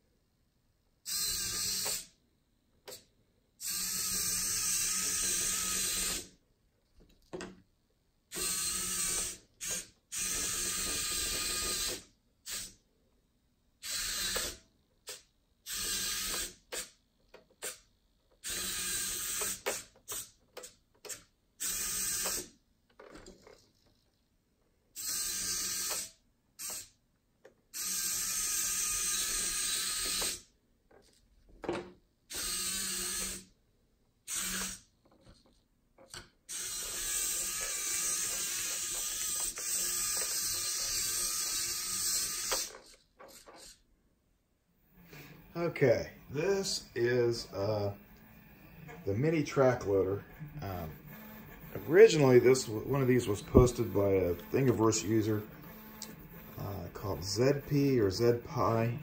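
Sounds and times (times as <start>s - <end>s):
servos whirring through plastic gears: 1.1s - 2.2s, 2.9s - 6.4s, 8.3s - 12.8s, 13.8s - 24.2s, 25.0s - 27.0s, 27.7s - 31.2s, 32.3s - 33.5s, 34.2s - 43.9s, 46.6s - 59.0s.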